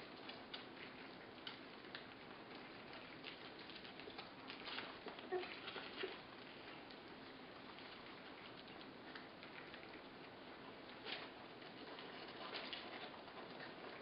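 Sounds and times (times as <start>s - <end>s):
puppies lapping food: 0.0s - 14.0s.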